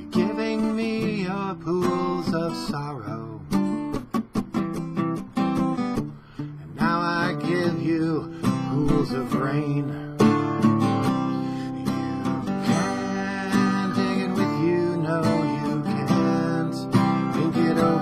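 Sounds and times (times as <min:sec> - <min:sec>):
man singing: 0:00.0 - 0:03.7, 0:06.6 - 0:18.0
strummed acoustic guitar: 0:00.0 - 0:18.0.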